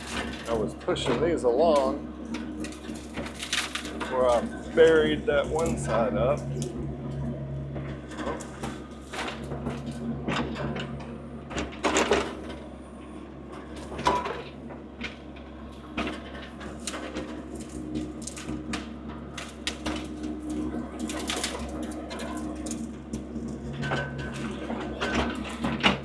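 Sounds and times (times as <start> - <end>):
machine engine running: 0.0 - 26.0.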